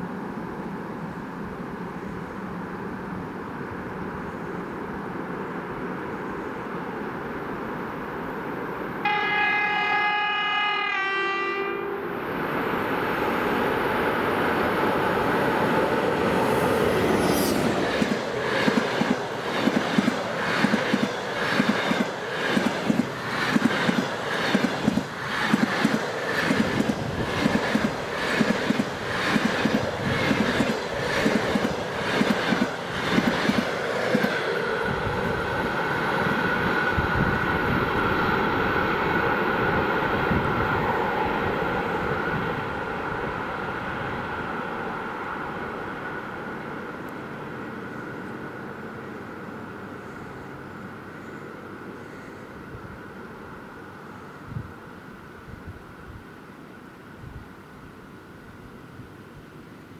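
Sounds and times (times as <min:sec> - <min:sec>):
train passing: 0:00.0 - 0:57.2.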